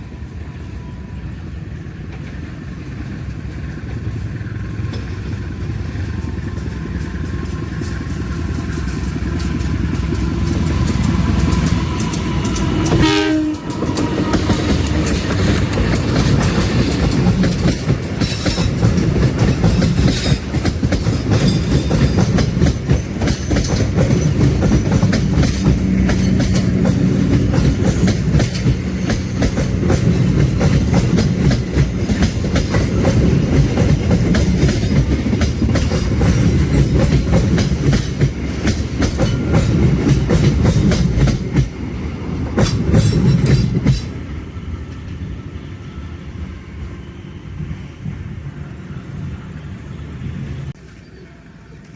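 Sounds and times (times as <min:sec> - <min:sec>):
train wheels clattering on rails: 0:00.0 - 0:45.4.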